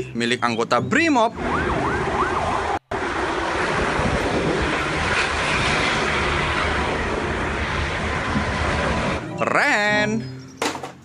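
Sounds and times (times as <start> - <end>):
buses driving on highway: 0.0 - 11.0.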